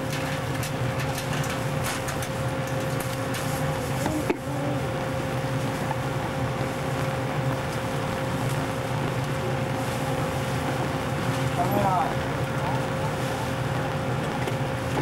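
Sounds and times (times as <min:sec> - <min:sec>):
high whine: 0:00.0 - 0:15.0
machinery and ventilation hum: 0:00.0 - 0:15.0.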